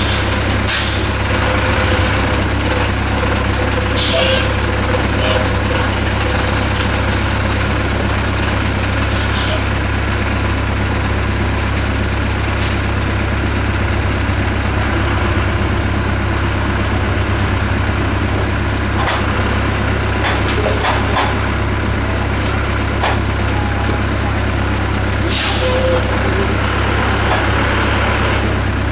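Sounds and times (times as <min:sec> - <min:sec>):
dump truck manoeuvring: 0:00.0 - 0:28.9
excavator diesel engine idling: 0:00.0 - 0:28.9.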